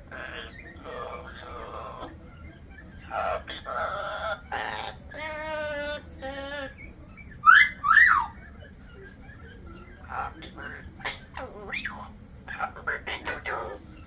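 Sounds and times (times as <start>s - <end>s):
parrot singing: 0.0s - 14.0s
parrot squawk: 0.0s - 14.0s.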